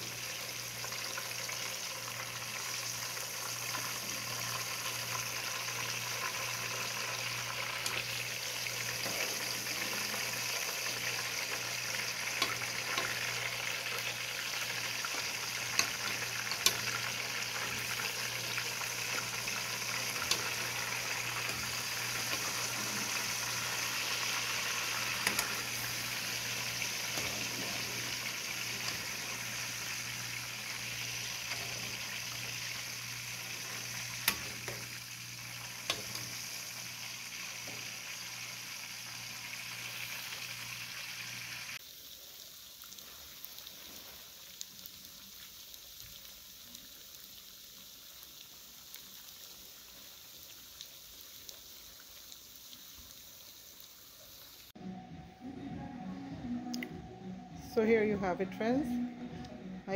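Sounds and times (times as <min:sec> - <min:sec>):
dumplings sizzling in hot oil: 0:00.0 - 0:54.8.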